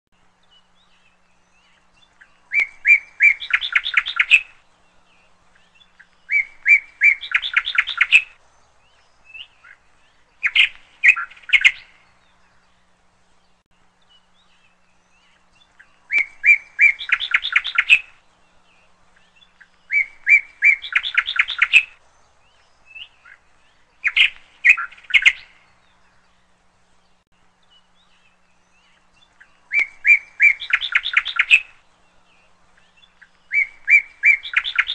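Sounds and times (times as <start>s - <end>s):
songbird singing trills: 0.2s - 34.9s.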